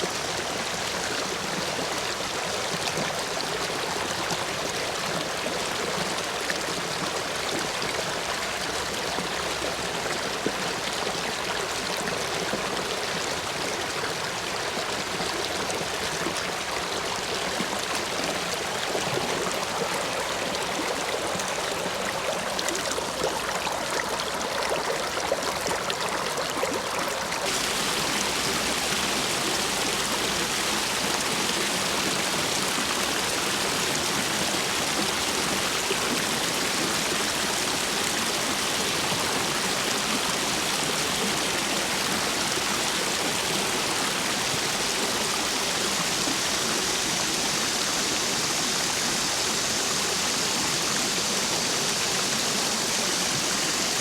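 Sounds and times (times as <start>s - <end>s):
stream water rushing over stones: 0.0s - 54.0s.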